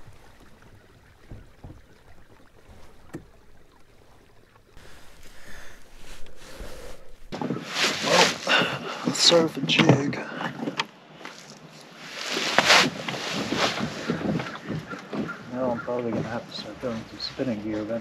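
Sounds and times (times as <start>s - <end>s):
faint water: 0.0s - 18.0s.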